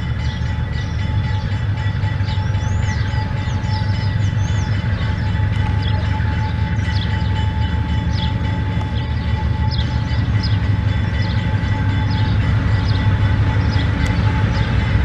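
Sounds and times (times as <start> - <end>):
locomotive engine rumble: 0.0 - 15.0.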